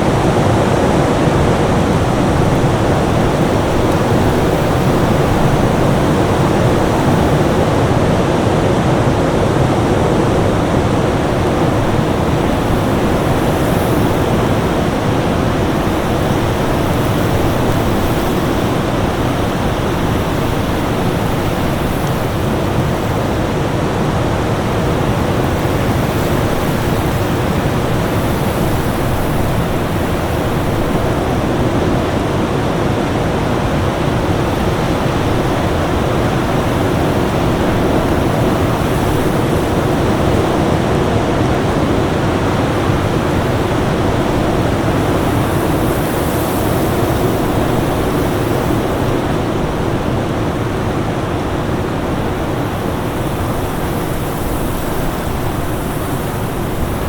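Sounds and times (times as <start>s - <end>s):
storm wind rushing: 0.0s - 57.0s.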